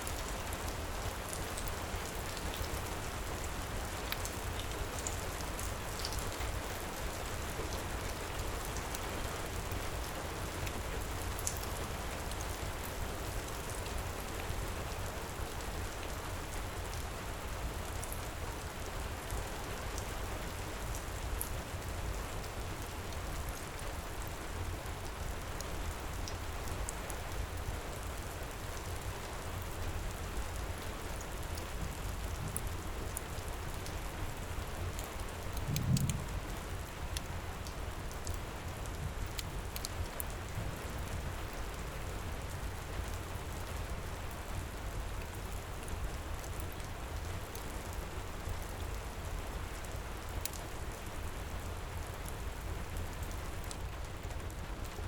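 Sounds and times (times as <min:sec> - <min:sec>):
faint fire crackles: 0:00.0 - 0:55.0
heavy rain pouring: 0:00.0 - 0:55.0.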